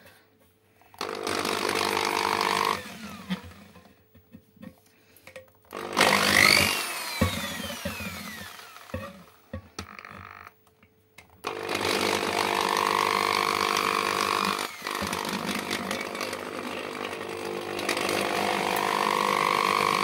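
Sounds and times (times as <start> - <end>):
electric drill motor: 1.0 - 3.9, 5.7 - 10.6, 11.4 - 20.0.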